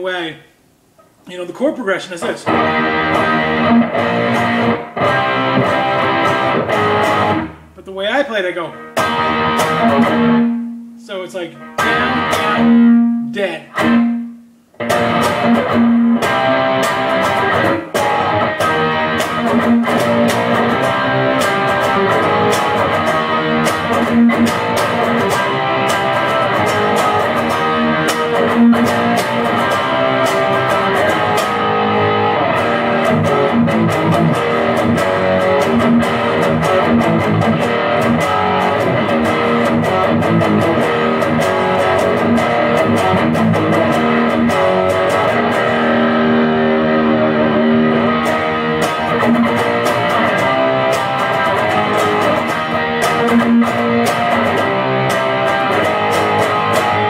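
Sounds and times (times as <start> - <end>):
electric guitar strumming chords: 2.1 - 57.0.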